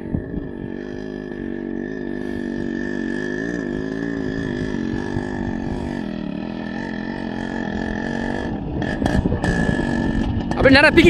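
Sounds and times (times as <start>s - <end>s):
motorcycle engine climbing hill: 0.0s - 11.0s.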